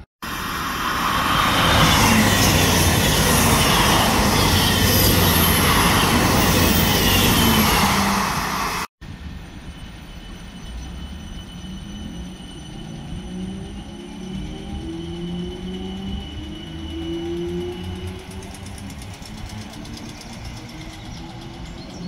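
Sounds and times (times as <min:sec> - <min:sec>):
diesel engines droning: 0:00.0 - 0:22.0
electric train passing: 0:00.0 - 0:22.0
wheels rushing on rail: 0:00.0 - 0:22.0.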